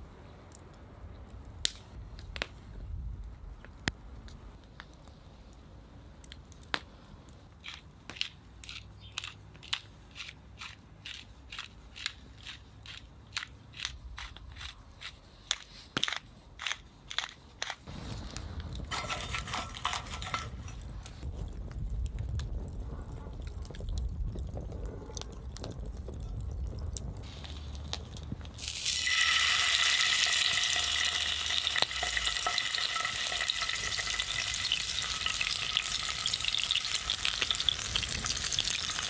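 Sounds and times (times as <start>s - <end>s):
campfire rumble and crackling: 0.0s - 8.6s, 16.4s - 39.0s.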